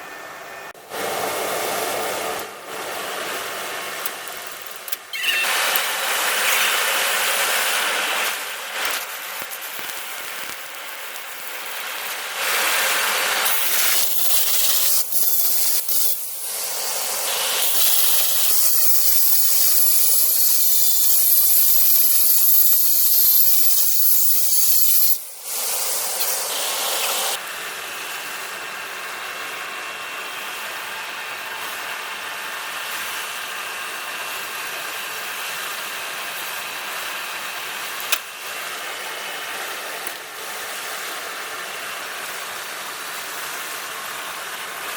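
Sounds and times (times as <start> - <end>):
power tool working metal: 0.9 - 41.9.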